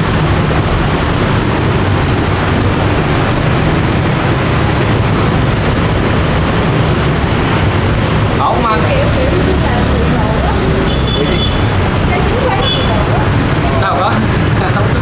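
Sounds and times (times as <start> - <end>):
busy street traffic hum: 0.0 - 15.0.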